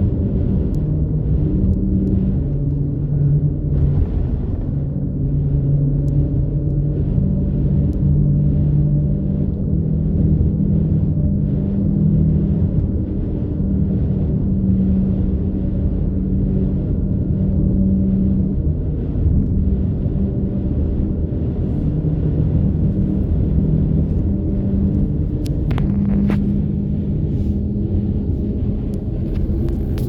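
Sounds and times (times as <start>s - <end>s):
vehicle driving interior drone: 0.0s - 30.0s.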